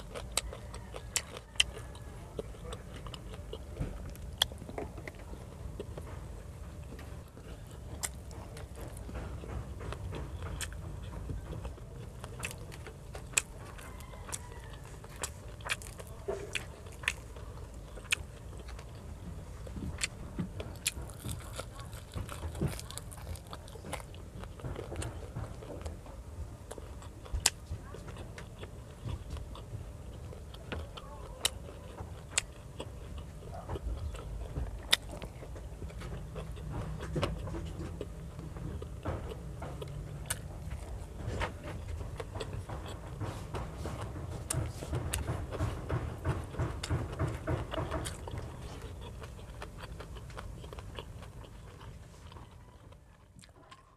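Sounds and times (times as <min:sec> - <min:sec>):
close chewing and biting: 0:00.0 - 0:53.9.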